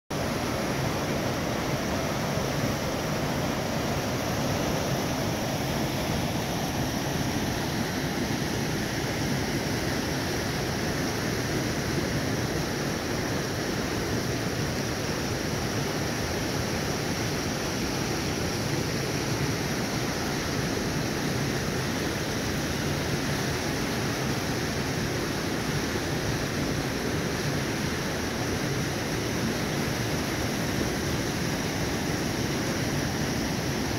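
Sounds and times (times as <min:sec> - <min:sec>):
creek water rushing over boulders: 0:00.1 - 0:33.9.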